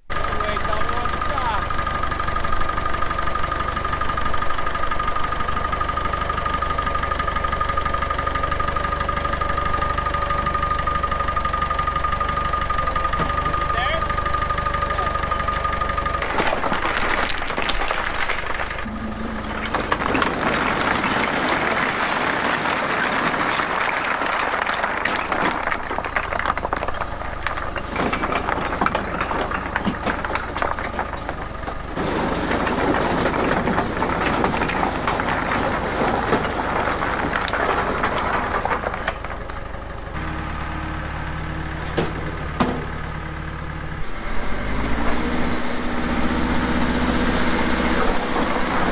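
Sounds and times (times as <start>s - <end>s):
diesel engine running: 0.0s - 48.9s
grinding clattering noise: 0.1s - 48.9s.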